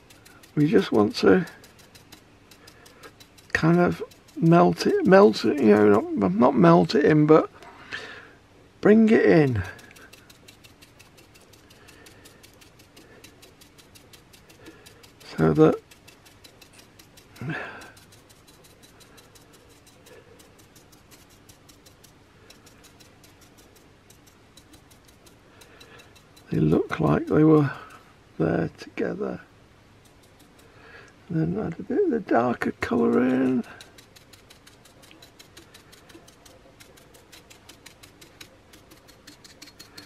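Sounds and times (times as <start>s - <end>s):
rapid even ticking: 0.0s - 6.2s, 9.3s - 28.1s, 29.9s - 31.2s, 32.5s - 40.0s
brush dabbing on glass jar: 0.0s - 7.0s, 9.1s - 28.1s, 30.0s - 30.8s, 32.5s - 40.0s
low steady hum: 0.0s - 40.0s.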